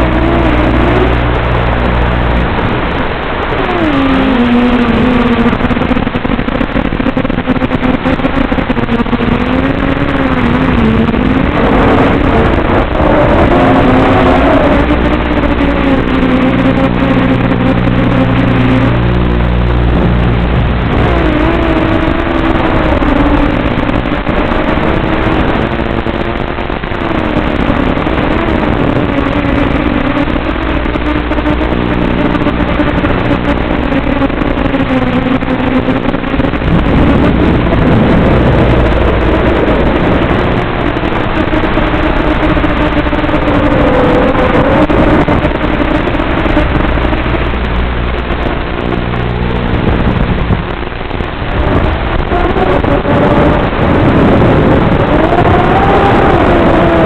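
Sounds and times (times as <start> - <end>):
drone motors whining: 0.0 - 50.8, 51.5 - 57.0
steady low buzz: 0.0 - 57.0.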